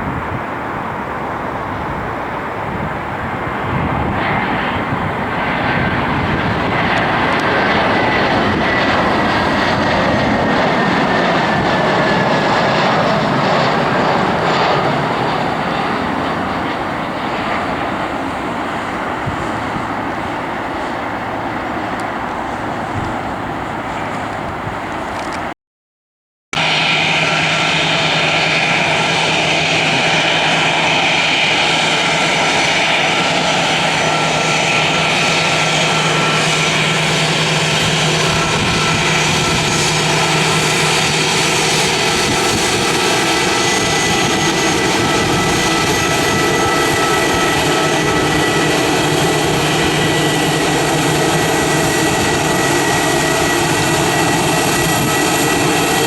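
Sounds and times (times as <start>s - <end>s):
jet engines running: 0.0s - 25.5s, 26.6s - 56.0s.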